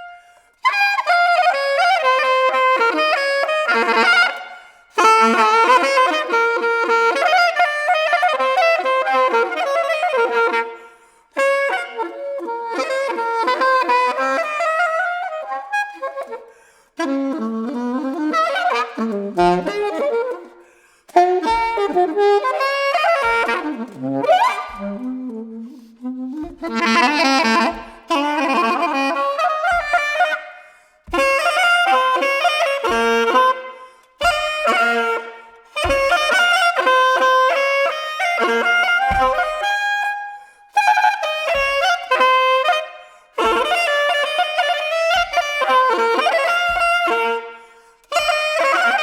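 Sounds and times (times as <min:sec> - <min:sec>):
solo saxophone improvising: 0:00.0 - 0:49.0.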